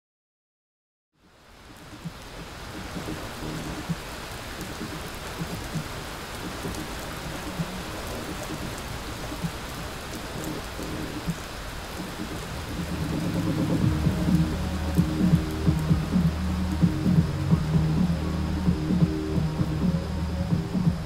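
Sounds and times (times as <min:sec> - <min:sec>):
steady rain hiss: 0:01.2 - 0:21.0
raindrop ticks: 0:01.4 - 0:21.0.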